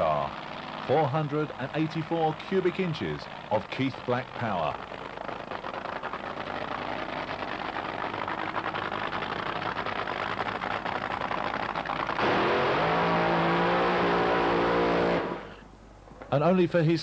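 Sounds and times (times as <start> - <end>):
race car engine crackling and revving: 0.0 - 15.6
tyres spinning in burnout: 0.0 - 15.6.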